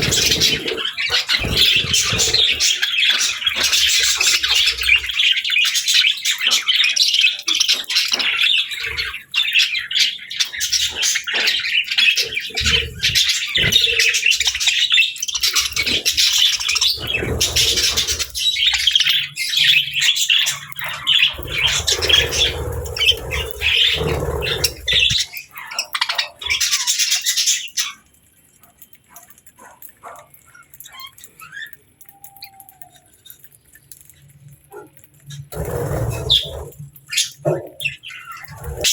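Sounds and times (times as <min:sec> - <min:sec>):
budgies and lovebirds chirping: 0:00.0 - 0:38.9.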